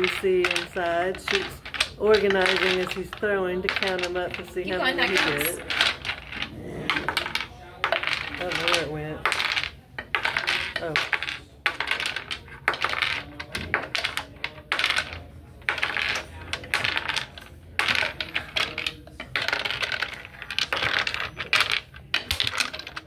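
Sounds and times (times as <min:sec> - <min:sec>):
wooden cubes clattering in box: 0:00.0 - 0:23.0.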